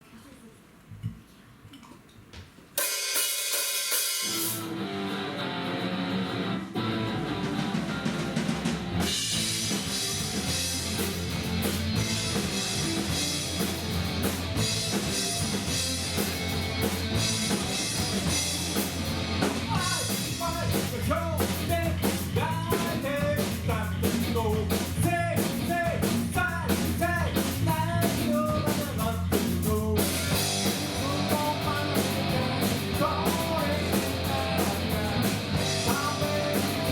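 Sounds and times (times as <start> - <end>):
rock band playing: 2.8 - 36.9.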